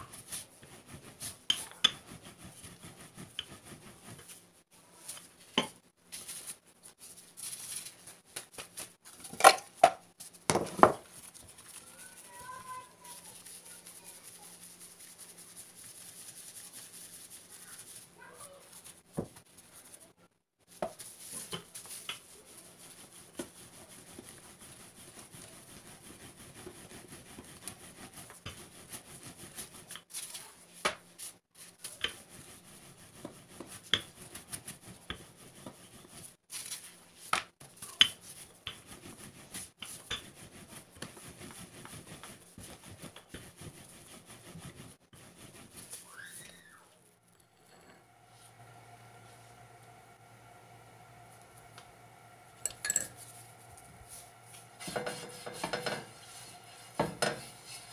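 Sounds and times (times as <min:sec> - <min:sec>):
rolling pin rubbing dough: 0:00.0 - 0:08.0, 0:10.1 - 0:57.9.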